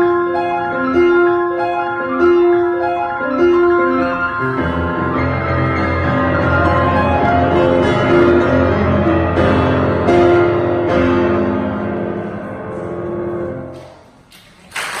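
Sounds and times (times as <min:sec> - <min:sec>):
piano playing chords: 0:00.0 - 0:14.1.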